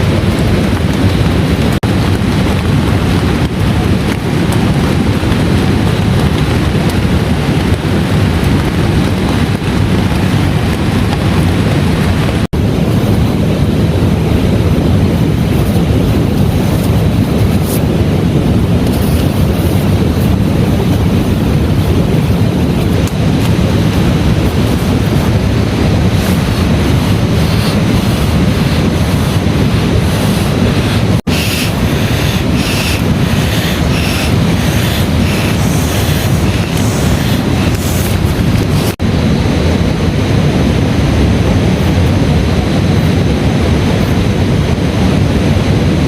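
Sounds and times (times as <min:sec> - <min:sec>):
heavy rain rushing: 0:00.0 - 0:44.2.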